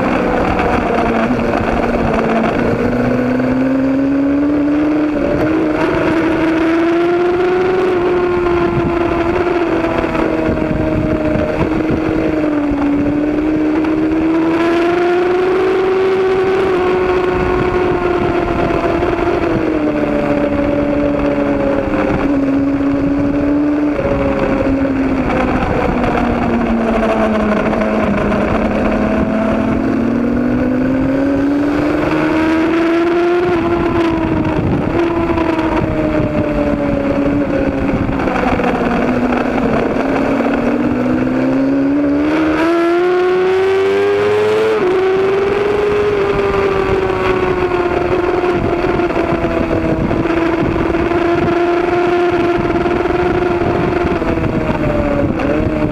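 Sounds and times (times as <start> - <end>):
racing motorcycle engines: 0.0 - 55.9.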